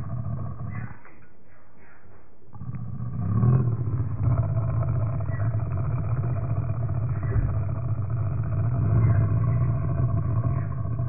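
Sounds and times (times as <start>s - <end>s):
low rumbling drone: 0.0s - 1.1s, 2.5s - 11.0s.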